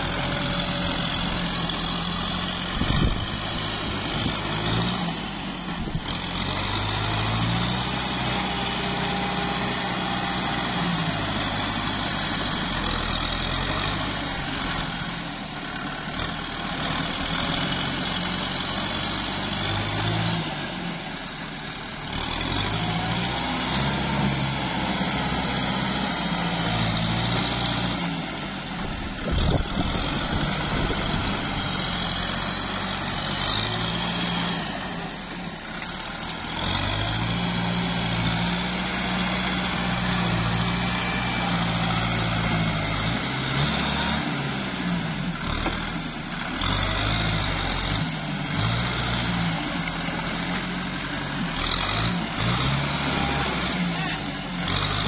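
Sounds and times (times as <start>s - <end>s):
tractor diesel engine under load: 0.0s - 55.0s
tyres churning through mud: 0.0s - 55.0s.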